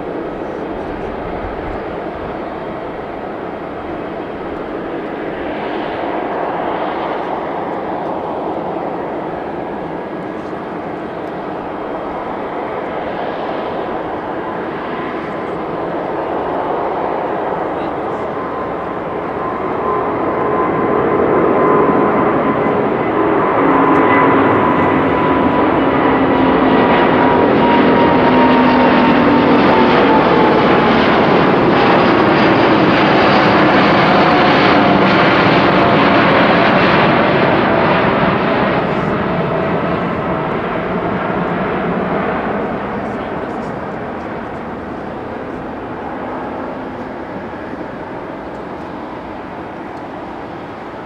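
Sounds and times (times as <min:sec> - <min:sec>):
jet airliner roar with whine: 0:00.0 - 0:51.0.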